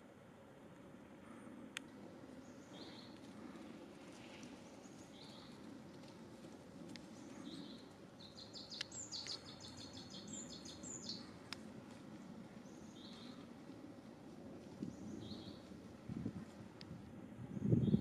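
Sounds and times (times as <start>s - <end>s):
birds chirping: 1.2s - 16.0s.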